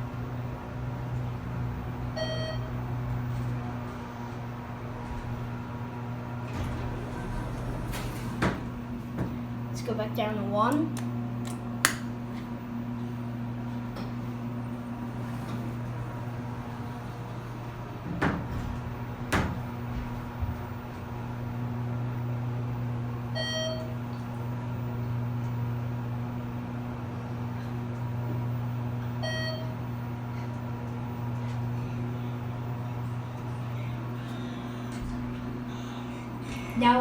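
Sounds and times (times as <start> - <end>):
elevator low hum: 0.0 - 37.0.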